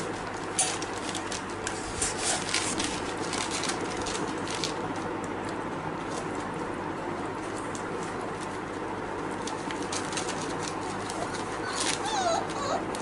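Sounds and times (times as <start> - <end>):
puppies crunching kibble: 0.0 - 13.0.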